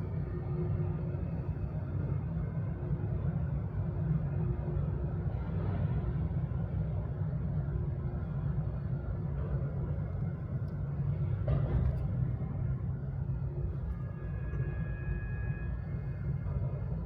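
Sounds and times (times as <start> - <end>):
faint steady hum: 0.0 - 17.0
low engine rumble: 0.0 - 17.0.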